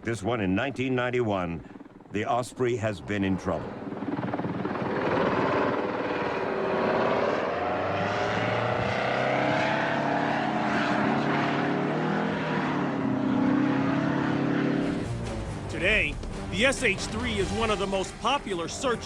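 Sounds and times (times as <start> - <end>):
aircraft engines and rotors droning: 0.0 - 19.0.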